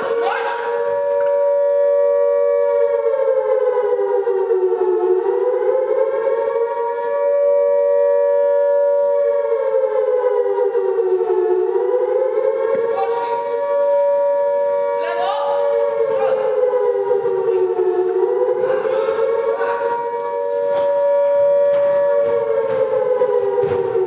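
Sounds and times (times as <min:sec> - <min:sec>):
air-raid siren wailing: 0:00.0 - 0:24.0.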